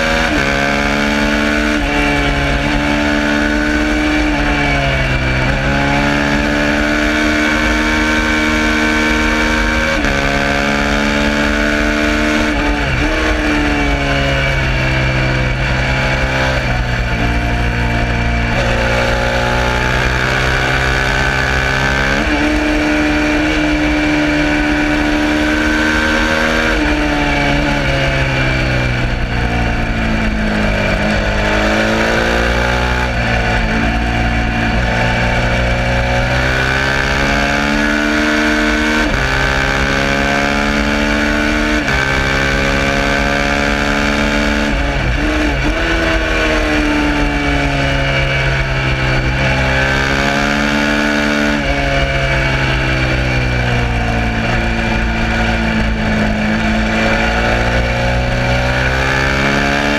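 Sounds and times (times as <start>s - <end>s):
motorcycle engine at full throttle: 0.0s - 59.9s.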